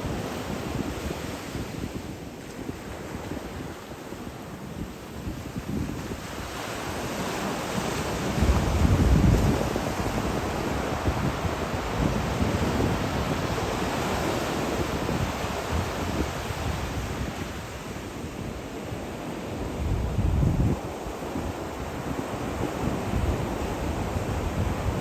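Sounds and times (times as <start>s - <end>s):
sea waves washing ashore: 0.0s - 25.0s
wind on microphone: 0.0s - 25.0s.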